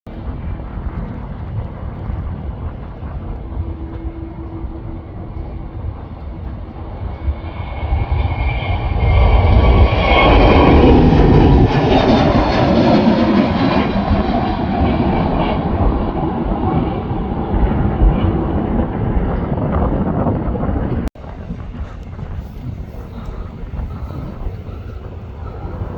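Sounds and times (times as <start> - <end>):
jet airliner engines passing: 0.1 - 25.9.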